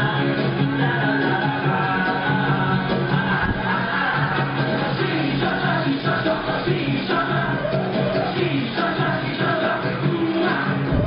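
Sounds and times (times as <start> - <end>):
male vocals singing: 0.0 - 11.0.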